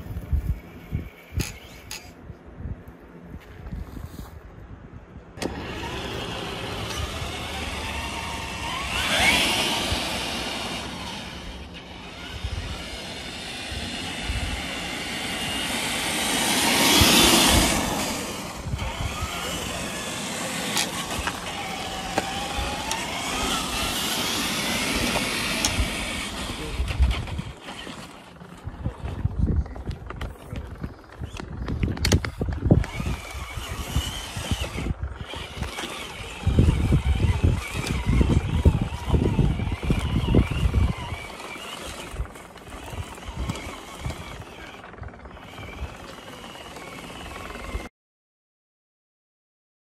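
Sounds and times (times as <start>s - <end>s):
electric motor and gears whining: 0.0s - 2.2s, 5.3s - 47.9s
tyres rumbling on asphalt: 5.2s - 47.9s.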